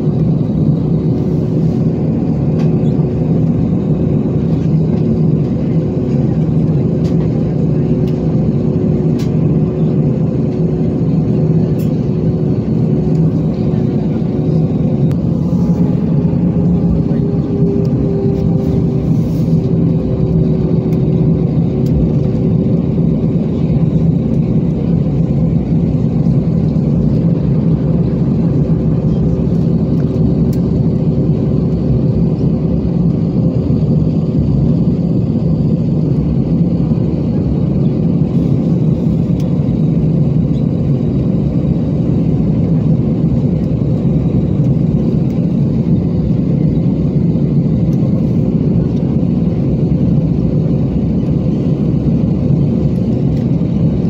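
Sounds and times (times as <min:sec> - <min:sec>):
jet engines humming: 0:00.0 - 0:54.0.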